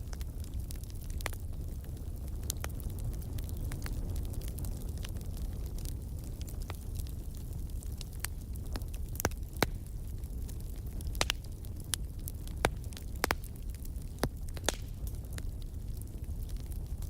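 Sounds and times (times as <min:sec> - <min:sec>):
fire pops and snaps: 0:00.0 - 0:17.0
low rumble of burning: 0:00.0 - 0:17.0
wood fire crackling: 0:00.0 - 0:17.0.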